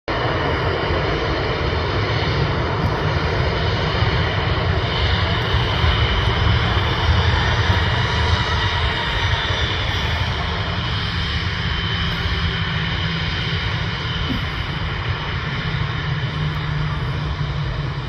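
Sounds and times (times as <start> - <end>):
jet engines at takeoff: 0.1 - 18.0.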